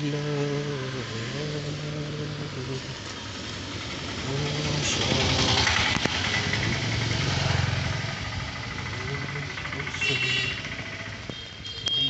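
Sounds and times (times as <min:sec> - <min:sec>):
auto-rickshaw engine passing: 0:00.0 - 0:11.4.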